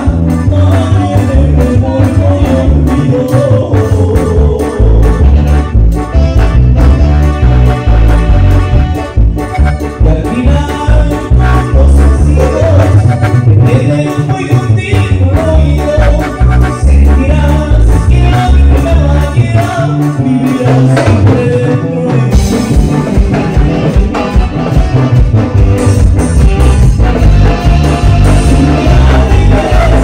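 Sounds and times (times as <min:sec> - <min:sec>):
heavy bass: 0:00.0 - 0:30.0
live band playing latin dance music: 0:00.0 - 0:30.0.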